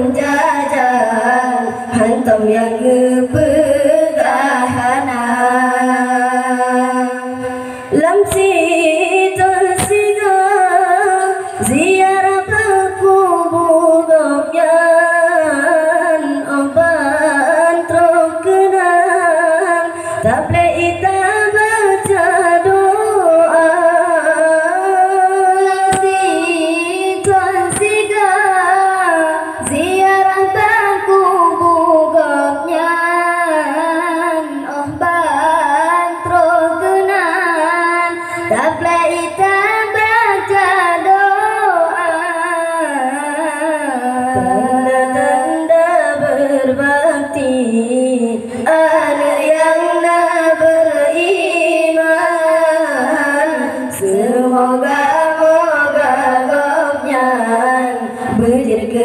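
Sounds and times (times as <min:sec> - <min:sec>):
boys singing through microphones: 0:00.0 - 0:59.0.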